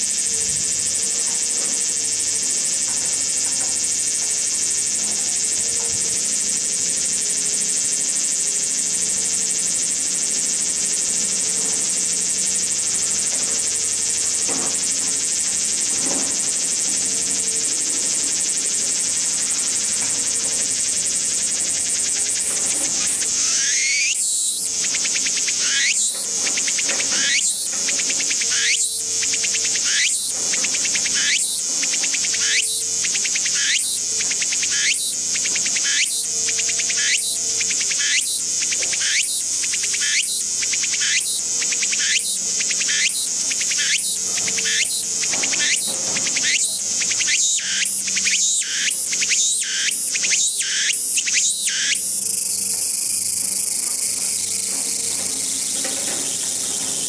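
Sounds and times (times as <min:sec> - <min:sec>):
cicada singing: 0:00.0 - 0:57.0.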